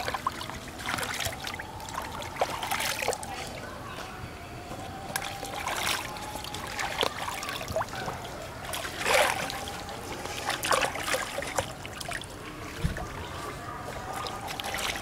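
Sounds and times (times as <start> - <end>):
hand splashing pond water: 0.0 - 3.4, 5.0 - 13.2, 14.1 - 15.0
water dripping and trickling: 0.0 - 3.6, 4.7 - 15.0.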